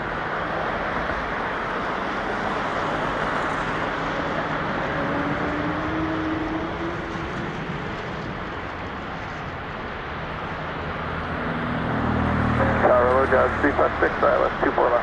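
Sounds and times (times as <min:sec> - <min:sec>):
jet engine rush with whine: 0:00.0 - 0:15.0.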